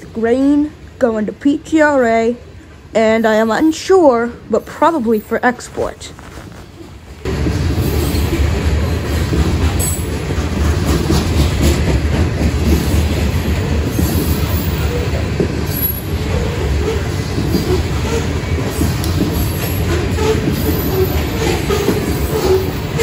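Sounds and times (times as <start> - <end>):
steel wheels rumbling on rail: 0.0 - 23.0.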